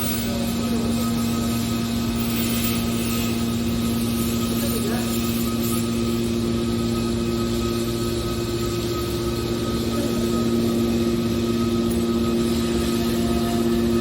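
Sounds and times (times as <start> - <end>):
motor and hydraulic pump humming: 0.0 - 14.0.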